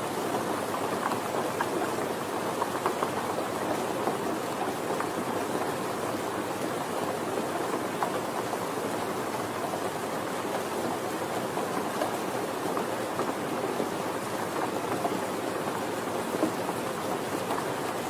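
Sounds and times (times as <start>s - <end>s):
gentle rain falling: 0.0s - 18.0s.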